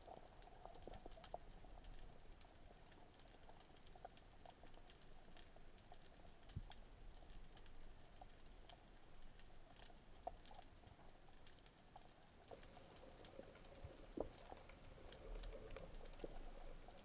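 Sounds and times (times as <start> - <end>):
underwater clicks and crackles: 0.0 - 17.0.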